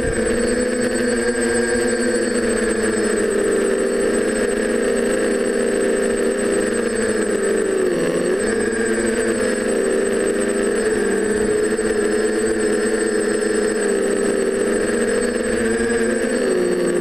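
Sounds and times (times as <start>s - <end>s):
quadcopter motors buzzing: 0.0s - 17.0s.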